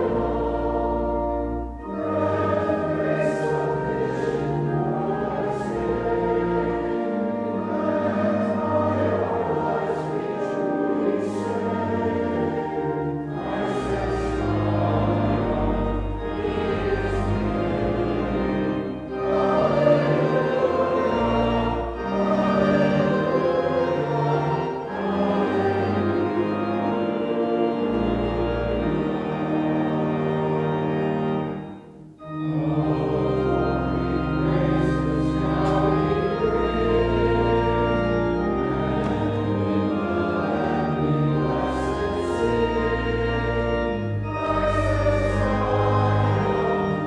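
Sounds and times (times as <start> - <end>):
group singing a hymn: 0.0 - 31.6, 32.4 - 47.0.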